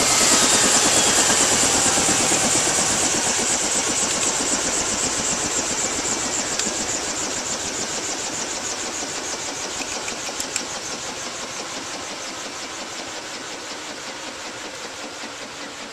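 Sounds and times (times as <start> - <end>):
gas turbine whine: 0.0 - 15.9.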